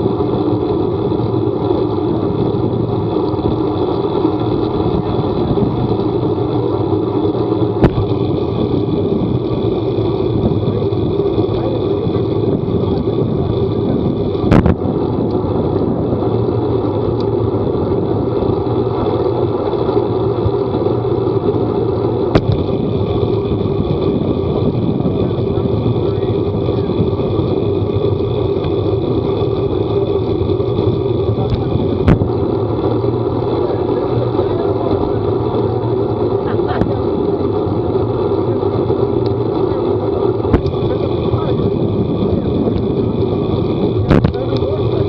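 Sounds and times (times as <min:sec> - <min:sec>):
vehicle running noise: 0:00.0 - 0:45.0.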